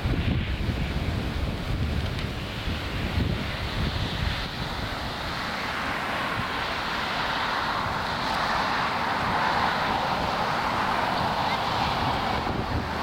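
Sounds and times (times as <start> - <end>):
jet engine roar: 0.0 - 13.0
wind buffeting microphone: 0.0 - 13.0.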